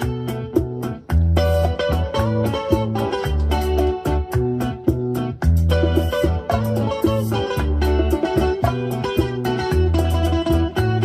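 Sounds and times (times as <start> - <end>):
latin instrumental music: 0.0 - 11.0.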